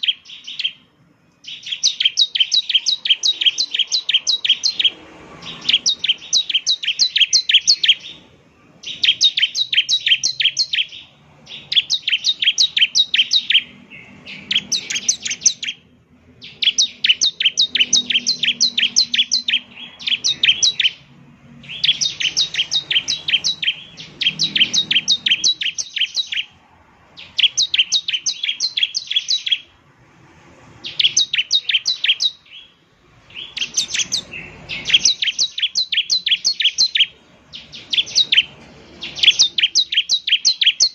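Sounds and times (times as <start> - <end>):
bird singing high chirps: 0.0 - 29.8, 30.6 - 40.9.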